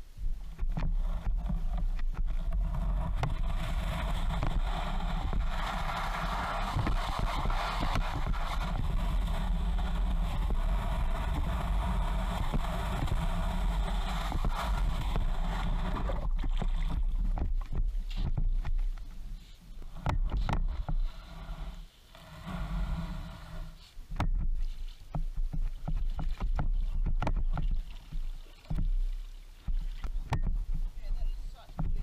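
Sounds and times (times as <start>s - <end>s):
water rushing along kayak hull: 0.0s - 32.0s
wind rumbling on microphone: 0.0s - 32.0s.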